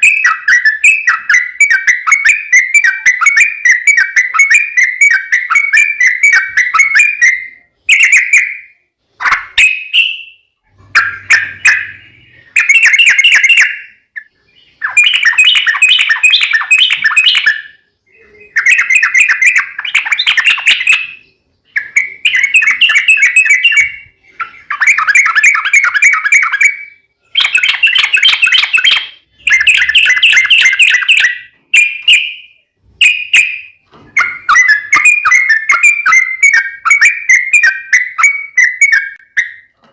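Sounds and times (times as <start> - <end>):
bulbul singing warbled phrases: 0.0 - 39.8.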